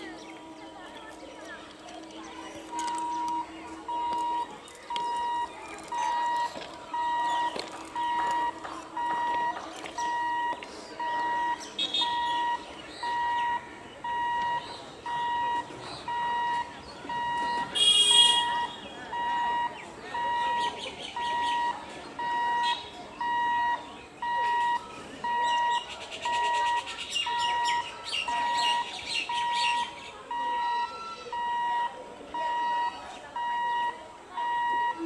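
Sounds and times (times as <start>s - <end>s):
birds chirping: 0.0s - 35.0s
electronic alarm beeping: 2.6s - 35.0s.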